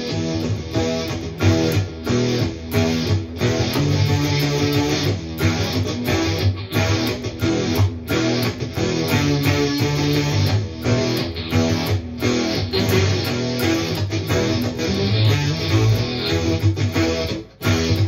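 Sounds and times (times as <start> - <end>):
synth-like electric guitar: 0.0 - 18.0.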